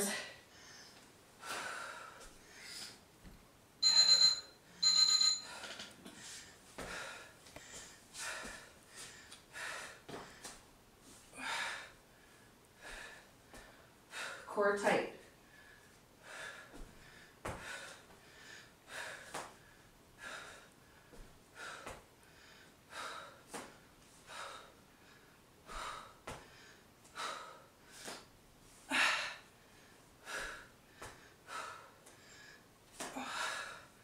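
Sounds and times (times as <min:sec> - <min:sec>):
woman breathing hard: 0:00.0 - 0:03.0, 0:05.4 - 0:10.6, 0:11.2 - 0:14.5, 0:15.3 - 0:34.0.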